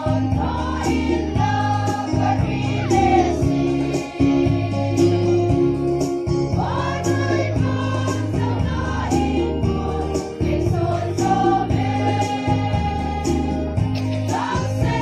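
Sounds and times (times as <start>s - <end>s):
women's choir singing a hymn: 0.0s - 5.7s, 6.5s - 15.0s
instrumental accompaniment with bass: 0.0s - 15.0s.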